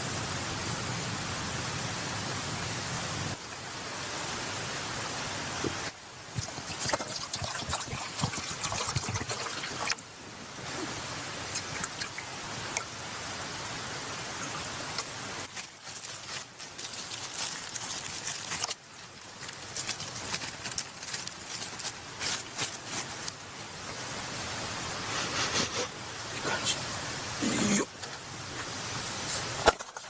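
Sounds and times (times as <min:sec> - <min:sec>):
campfire hiss and crackles: 0:00.0 - 0:30.0.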